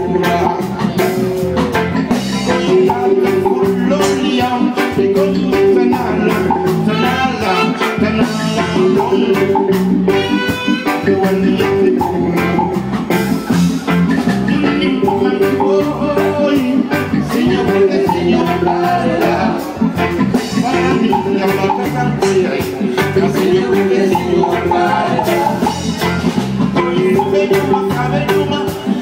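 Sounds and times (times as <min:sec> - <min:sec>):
man singing: 0:00.0 - 0:13.4, 0:14.1 - 0:29.0
drum kit beat: 0:00.0 - 0:29.0
electric guitar: 0:00.0 - 0:29.0.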